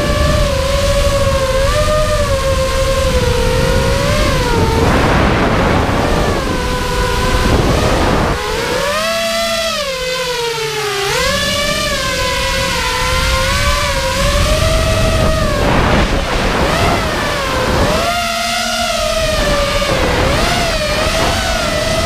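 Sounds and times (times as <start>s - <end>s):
drone motors and propellers whining: 0.0s - 22.0s
wind rushing over microphone: 0.0s - 22.0s.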